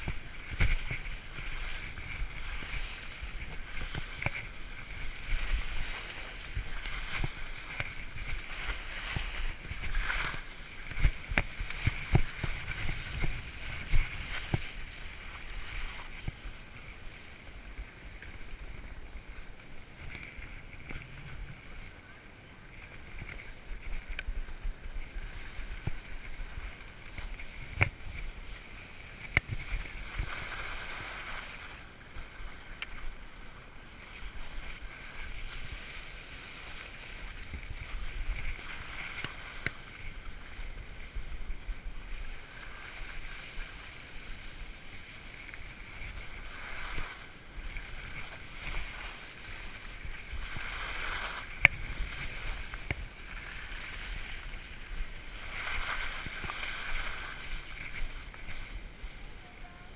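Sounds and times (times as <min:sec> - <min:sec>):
skis swishing over slushy snow: 0:00.0 - 0:59.9.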